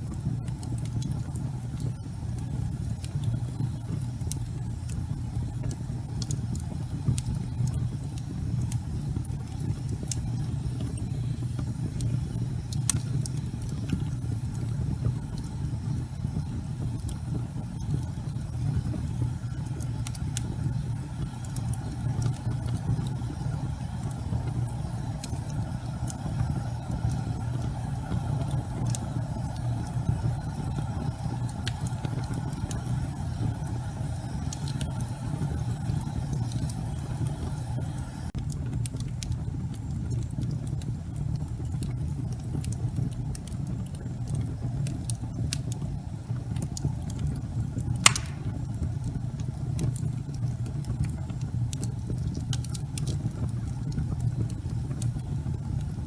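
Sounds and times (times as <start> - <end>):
crackles and pops of burning logs: 0.0 - 56.0
fire rumbling: 0.0 - 56.0.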